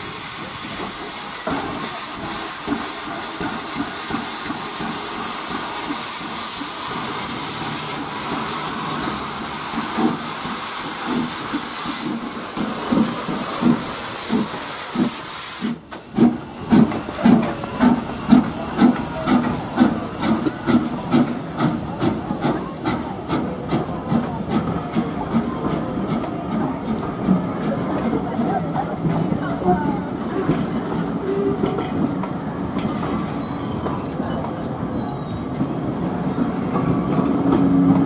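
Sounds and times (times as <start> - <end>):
train rhythmic running beat: 0.0 - 33.0
steam locomotive hissing: 0.0 - 38.0.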